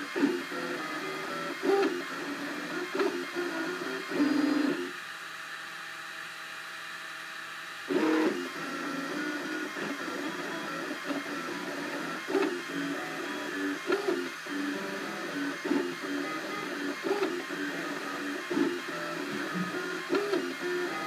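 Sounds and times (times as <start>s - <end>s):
printer stepper motors whining: 0.0s - 21.0s.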